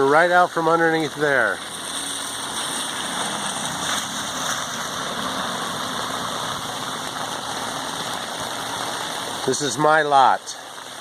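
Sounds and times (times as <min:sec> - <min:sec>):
stormwater pouring from drain outlet: 0:00.0 - 0:11.0.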